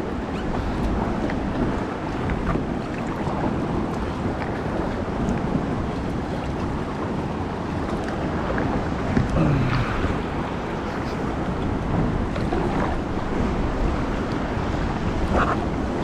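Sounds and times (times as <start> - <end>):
light water splashes: 0.0 - 16.0
water washing around kayak: 0.0 - 16.0
wind rumbling on microphone: 0.0 - 16.0.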